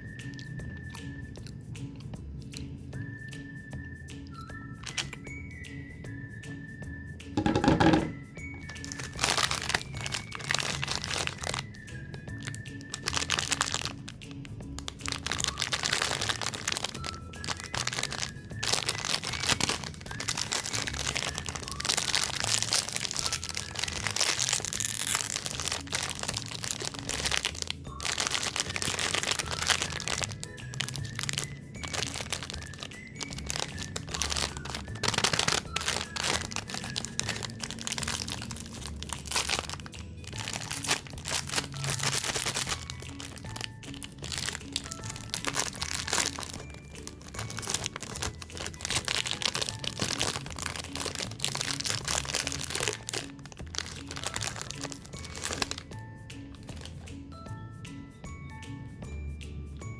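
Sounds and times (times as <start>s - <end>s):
background music: 0.0s - 59.9s
wrappers crinkling: 4.8s - 5.2s, 7.4s - 57.2s.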